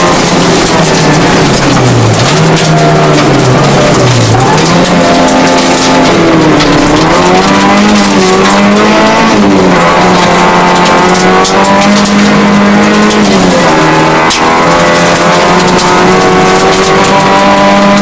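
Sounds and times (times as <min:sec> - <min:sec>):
gravel clicking under car: 0:00.0 - 0:18.0
rally car engine at full throttle: 0:00.0 - 0:18.0.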